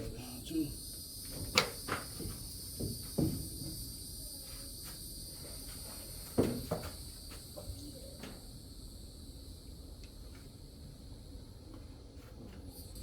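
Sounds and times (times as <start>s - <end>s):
crickets chirring: 0.0s - 11.7s.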